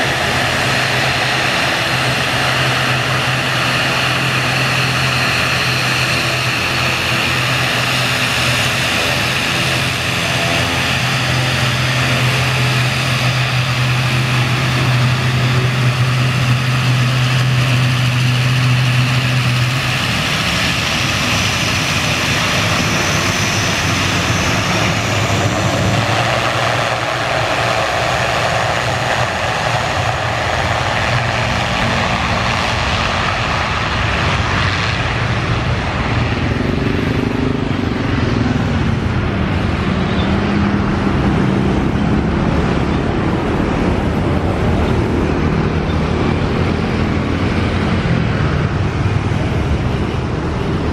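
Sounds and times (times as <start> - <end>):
turboprop engines roaring: 0.0 - 50.9.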